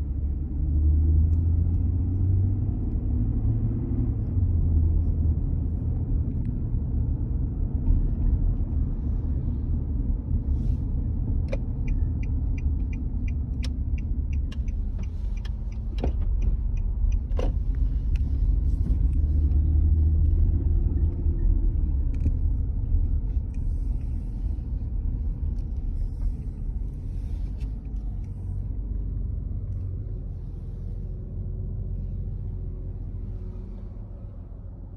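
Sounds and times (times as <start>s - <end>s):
car engine and road rumble: 0.0s - 34.9s.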